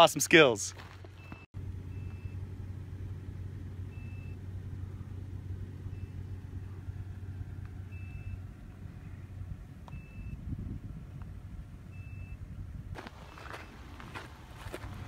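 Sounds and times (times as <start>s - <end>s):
low machine hum: 0.8s - 15.0s.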